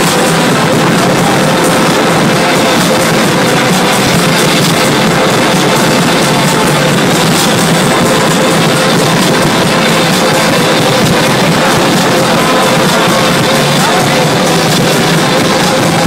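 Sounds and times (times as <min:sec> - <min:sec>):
fireworks crackling: 0:00.0 - 0:16.0
music: 0:00.0 - 0:16.0.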